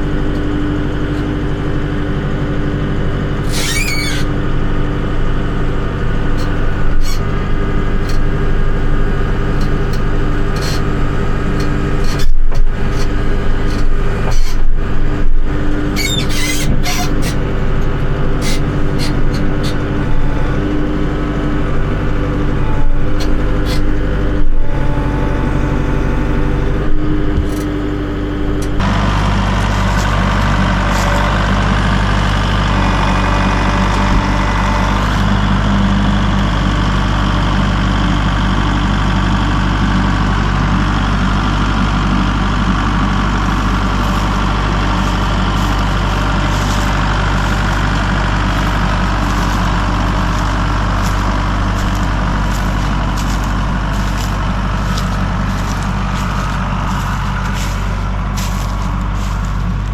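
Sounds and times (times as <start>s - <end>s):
heavy equipment engine running: 0.0s - 59.9s.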